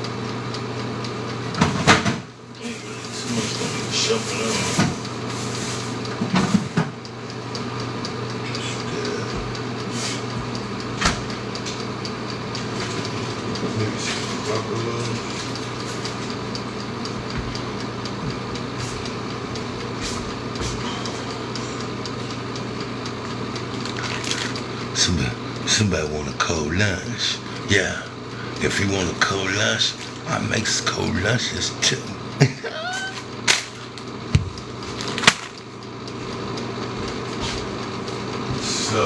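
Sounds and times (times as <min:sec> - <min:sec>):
machine hum: 0:07.0 - 0:39.0.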